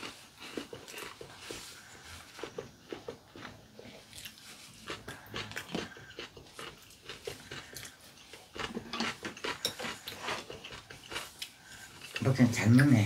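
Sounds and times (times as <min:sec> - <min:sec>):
wet chewing and slurping: 0:00.0 - 0:13.0.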